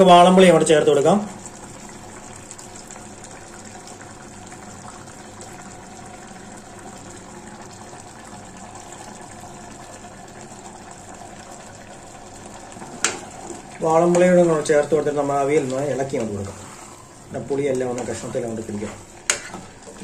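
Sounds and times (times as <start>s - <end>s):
curry bubbling in a pot: 0.0s - 20.0s
water trickling into pot: 0.0s - 20.0s.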